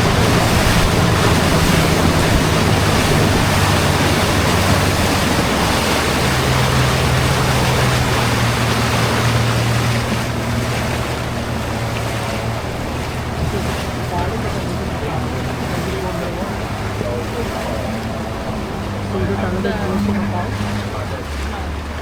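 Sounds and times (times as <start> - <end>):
motorboat engine running: 0.0 - 22.0
water rushing: 0.0 - 22.0
wind: 0.0 - 22.0.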